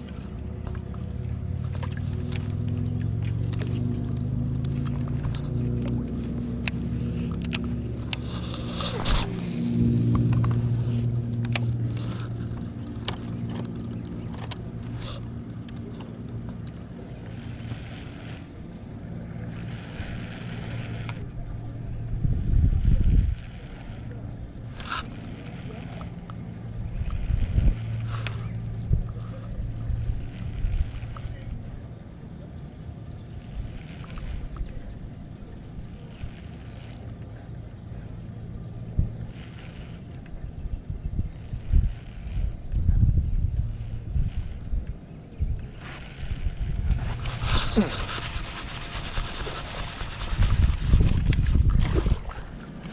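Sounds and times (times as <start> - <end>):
electric boat motor humming: 0.0 - 52.9
fishing reel whirring: 0.0 - 52.9
wind rumble on microphone: 0.0 - 52.9.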